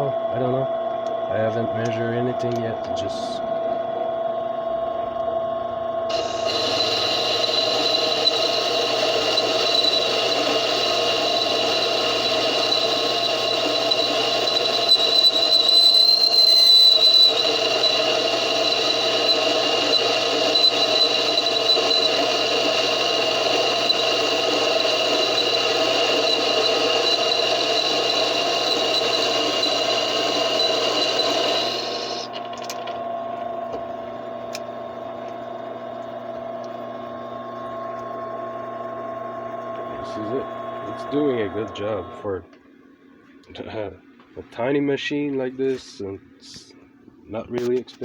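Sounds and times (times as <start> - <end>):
lathe motor and gear whine: 0.0 - 42.5.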